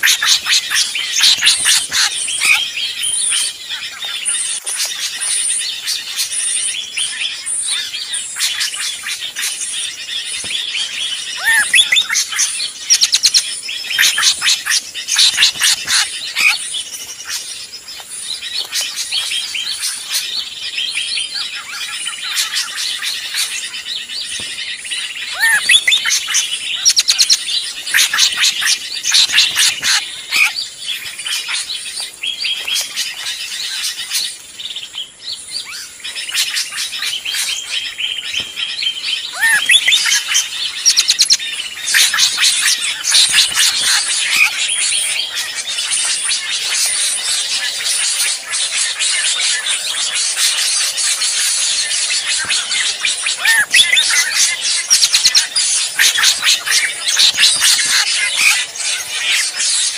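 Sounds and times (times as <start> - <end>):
drongo calls: 0.0 - 59.9
small birds chirping and trilling: 0.0 - 59.9.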